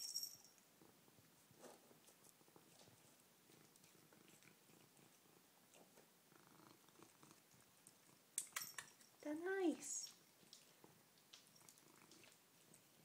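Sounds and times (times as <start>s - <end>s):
cat eating with soft clicks: 0.5s - 9.2s, 10.0s - 13.0s
cat purring: 0.7s - 8.6s, 10.2s - 13.0s.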